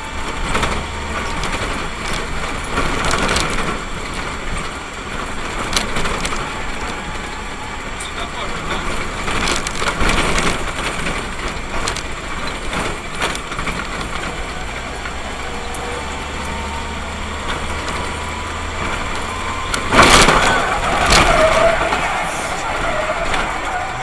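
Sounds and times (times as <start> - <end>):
car engine and road noise: 0.0 - 24.0
harsh rushing burst: 0.0 - 24.0.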